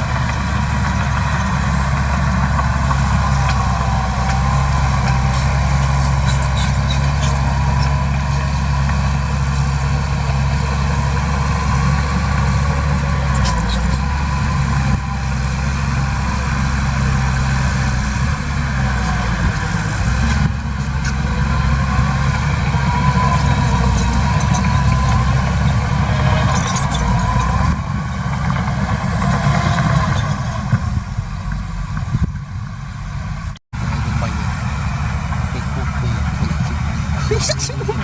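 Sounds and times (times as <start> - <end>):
diesel machinery engine drone: 0.0 - 38.0.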